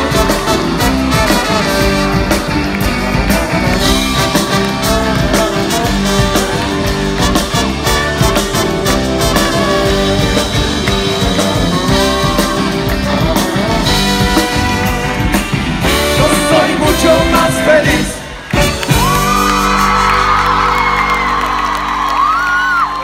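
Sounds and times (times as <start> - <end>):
live rock band playing polka: 0.0 - 20.9
saxophone: 0.0 - 22.2.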